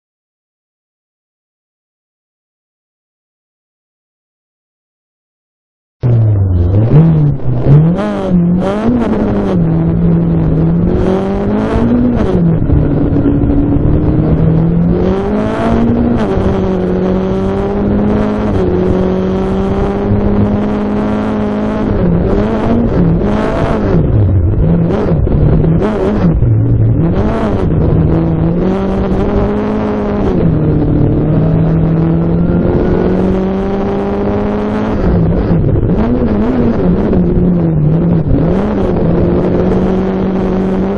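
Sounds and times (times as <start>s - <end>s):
rally car engine revving: 6.0s - 40.9s.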